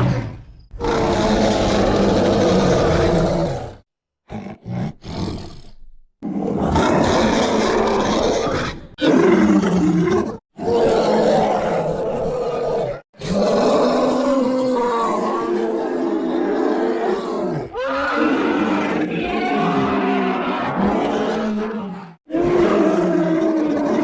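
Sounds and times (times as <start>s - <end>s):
bear roaring: 0.0s - 24.0s.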